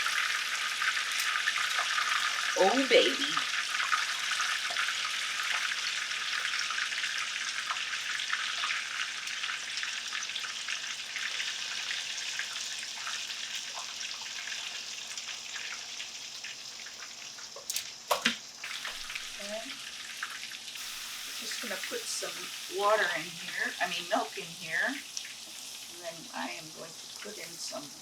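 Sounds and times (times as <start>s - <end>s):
oil sizzling and popping: 0.0s - 28.0s.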